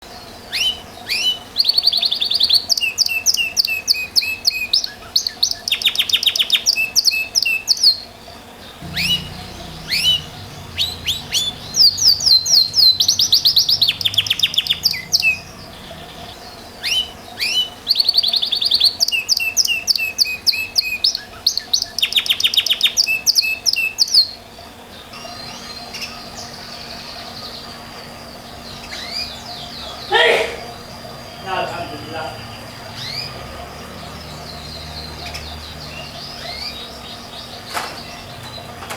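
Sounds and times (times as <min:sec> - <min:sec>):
canary singing trills and whistles: 0:00.0 - 0:38.8.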